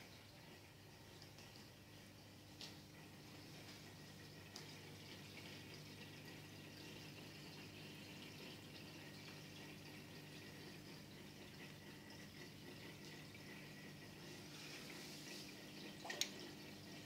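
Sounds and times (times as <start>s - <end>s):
aquarium filter water trickle: 0.0s - 17.0s.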